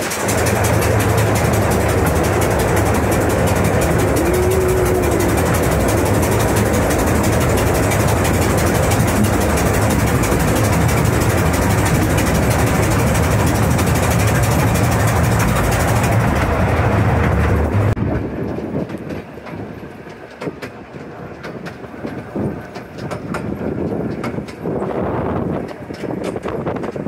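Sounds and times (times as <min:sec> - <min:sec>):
train rumbling in a tunnel: 0:00.0 - 0:27.0
wheel clicks on rails: 0:00.0 - 0:27.0
wind: 0:00.0 - 0:27.0.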